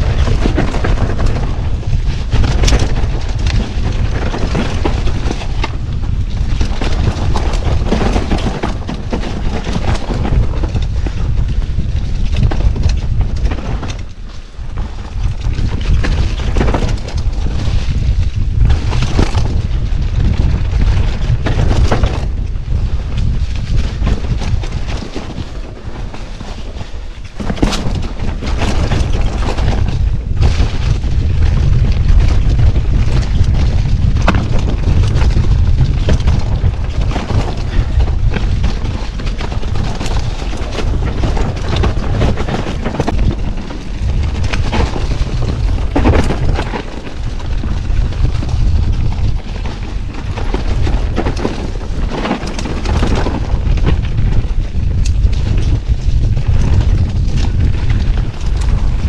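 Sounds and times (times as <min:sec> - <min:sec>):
bike knocking and rattling: 0:00.0 - 0:59.0
wind rumble on microphone: 0:00.0 - 0:59.0.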